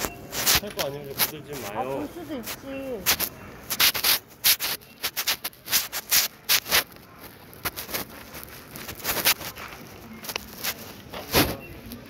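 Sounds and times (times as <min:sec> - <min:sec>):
cloth rustling against microphone: 0:00.0 - 0:12.0.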